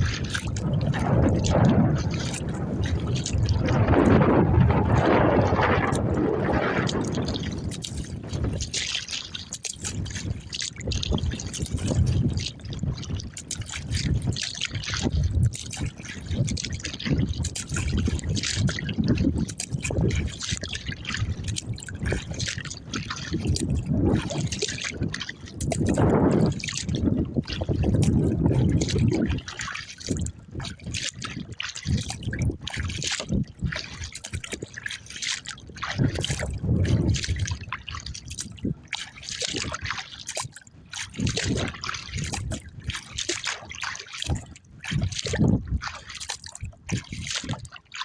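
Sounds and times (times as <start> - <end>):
wind buffeting microphone: 0.0 - 47.7
water splashing around kayak: 0.0 - 48.0.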